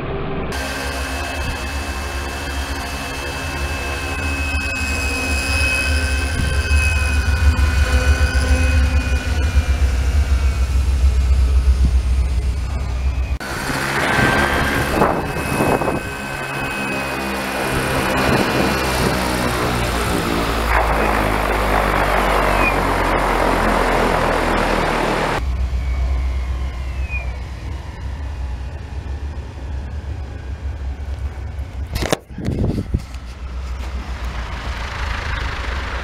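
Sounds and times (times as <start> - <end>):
motor whine: 0.5 - 32.0
model helicopter rotor hum: 0.5 - 36.0.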